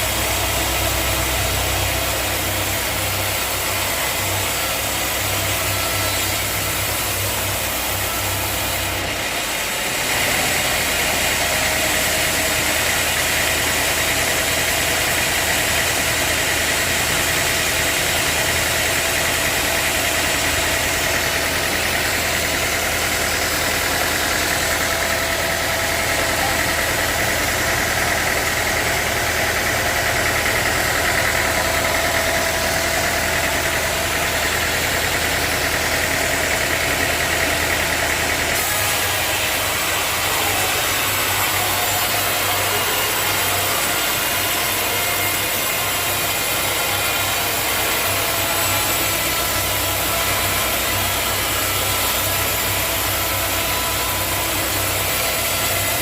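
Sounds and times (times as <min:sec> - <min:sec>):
sawmill machinery motor whine: 0:00.0 - 0:56.0.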